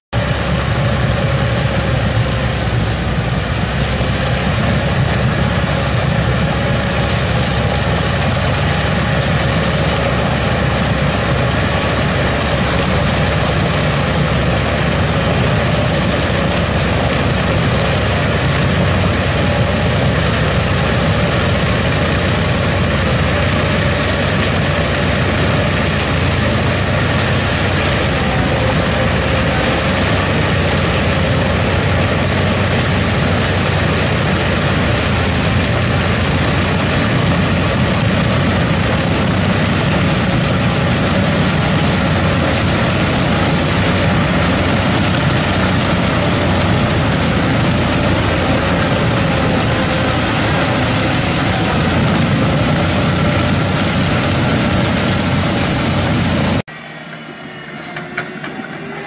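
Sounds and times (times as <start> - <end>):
tractor diesel engine running: 0.0 - 59.0
mud and water rushing: 0.2 - 56.7.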